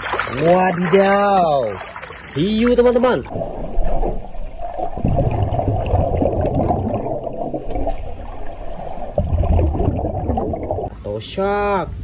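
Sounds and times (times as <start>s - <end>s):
muffled underwater rushing water: 0.0s - 11.0s.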